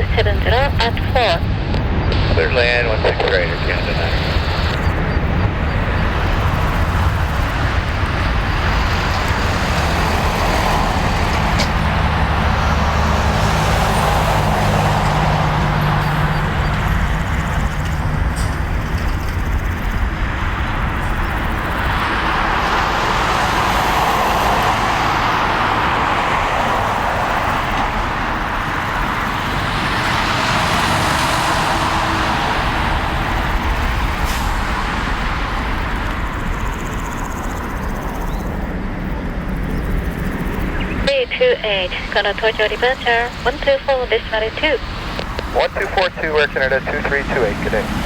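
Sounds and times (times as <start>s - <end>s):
jet airliner taking off: 0.0s - 48.0s.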